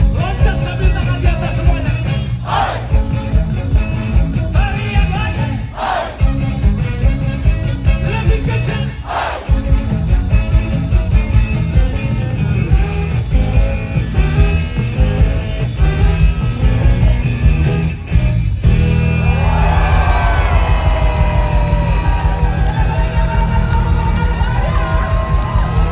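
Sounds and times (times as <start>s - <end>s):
live rock band playing: 0.0s - 25.9s.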